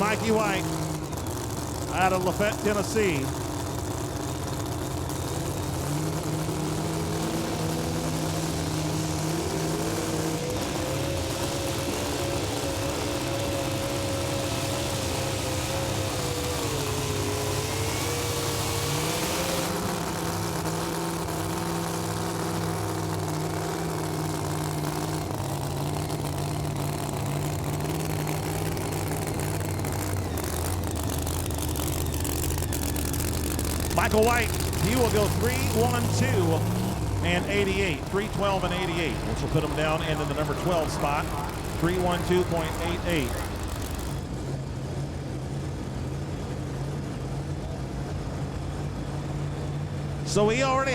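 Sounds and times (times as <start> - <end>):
truck engine at full throttle: 0.0 - 50.9.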